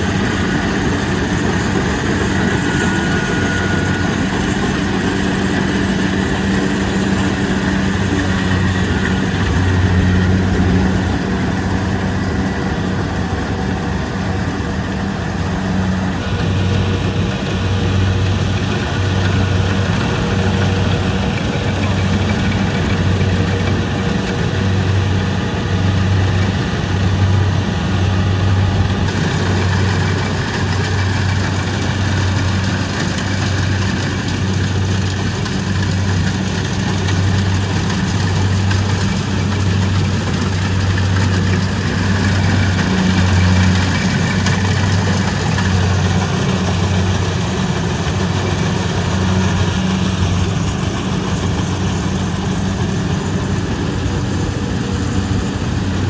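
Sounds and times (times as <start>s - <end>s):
diesel engine running: 0.0s - 56.0s
mechanical rush: 0.0s - 56.0s.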